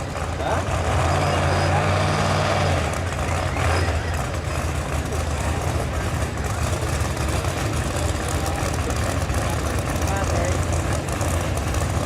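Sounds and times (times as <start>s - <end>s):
race car engine idling: 0.0s - 1.0s, 2.9s - 12.0s
people's voices: 0.0s - 12.0s.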